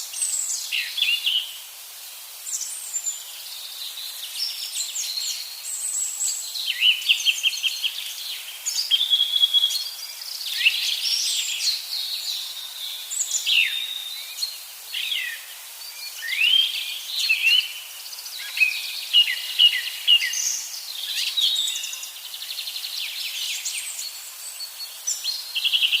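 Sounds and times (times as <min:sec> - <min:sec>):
small birds singing and chirping: 0:00.0 - 0:01.7, 0:02.4 - 0:26.0.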